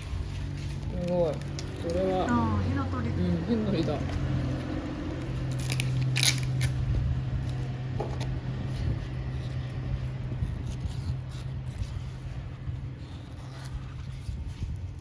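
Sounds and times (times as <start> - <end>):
palm leaf strips rustling: 0.0 - 15.0
steady low hum: 0.0 - 15.0.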